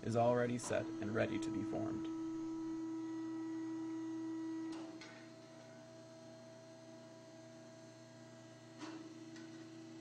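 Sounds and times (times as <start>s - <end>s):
bending machine motor hum: 0.0s - 10.0s.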